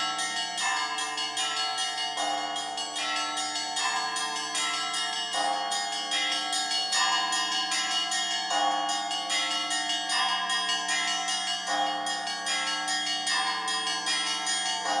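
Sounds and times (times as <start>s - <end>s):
church bells ringing a peal: 0.0s - 15.0s.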